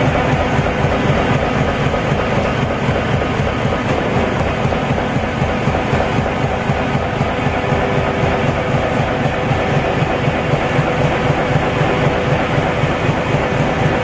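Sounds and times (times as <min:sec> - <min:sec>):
machine hum: 0:00.0 - 0:14.0
printing machine running: 0:00.0 - 0:14.0.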